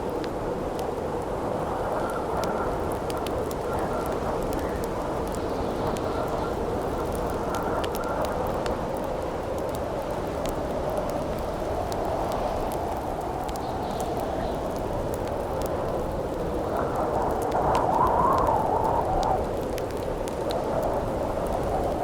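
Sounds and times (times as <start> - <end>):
campfire crackling and popping: 0.0 - 22.0
howling wind: 0.0 - 22.0.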